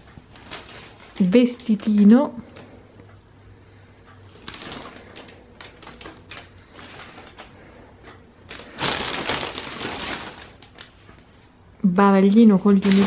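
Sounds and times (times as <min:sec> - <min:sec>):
plastic wrapping rustling: 0:00.0 - 0:02.8, 0:04.3 - 0:11.5, 0:12.3 - 0:13.0.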